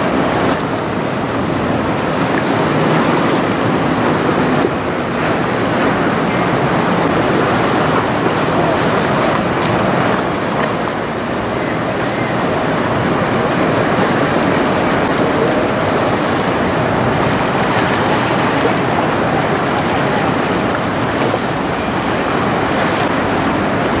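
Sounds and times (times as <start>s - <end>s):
choppy waves: 0.0s - 24.0s
wind on microphone: 0.0s - 24.0s.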